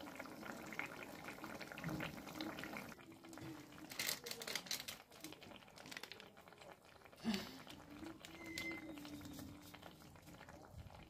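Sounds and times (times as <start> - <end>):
pot bubbling: 0.0 - 11.0.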